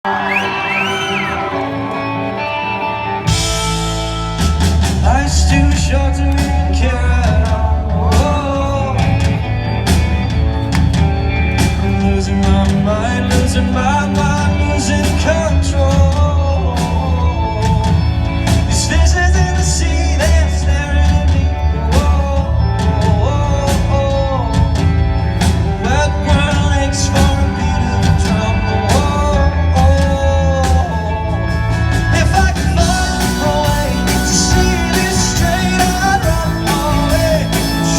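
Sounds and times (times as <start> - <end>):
live rock band playing: 0.0 - 37.9
man singing: 4.4 - 9.9, 11.8 - 37.9.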